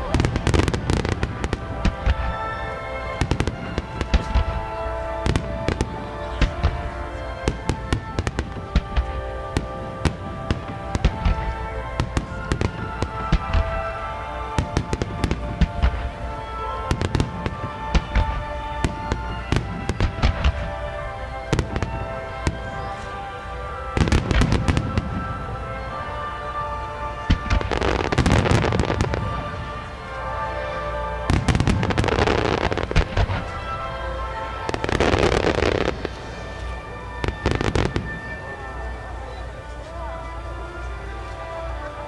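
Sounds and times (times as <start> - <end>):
fireworks bursting: 0.0 - 42.0
music over loudspeakers: 0.0 - 42.0.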